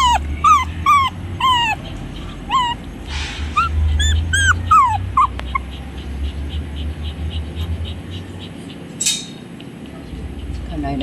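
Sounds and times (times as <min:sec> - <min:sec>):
puppy whimpering yelps: 0:00.0 - 0:08.8.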